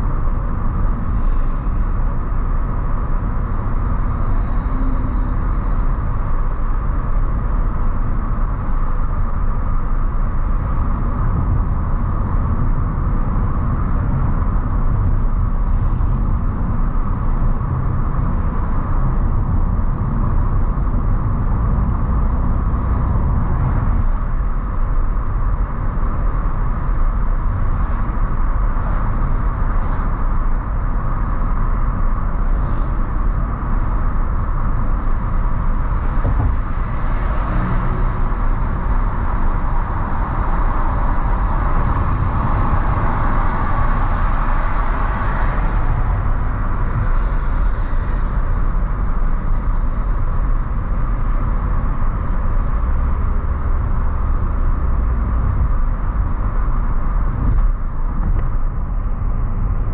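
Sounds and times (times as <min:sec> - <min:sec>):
car engine and tyre hiss: 0:00.0 - 0:59.6.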